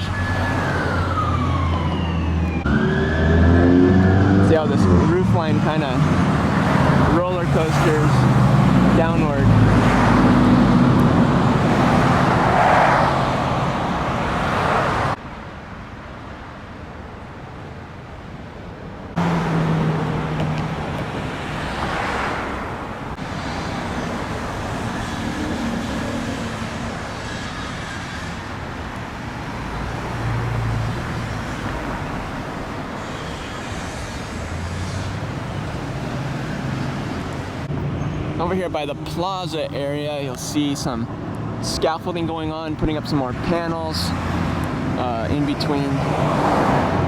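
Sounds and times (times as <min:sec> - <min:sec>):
cars passing by: 0:00.0 - 0:47.0
road rumble: 0:00.0 - 0:47.0.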